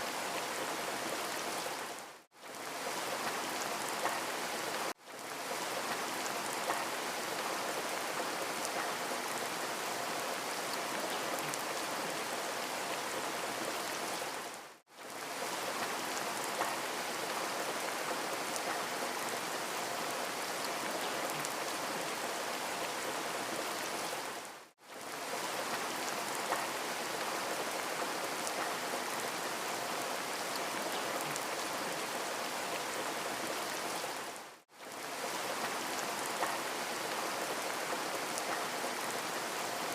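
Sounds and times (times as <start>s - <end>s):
rain hiss with drop ticks: 0.1s - 39.9s.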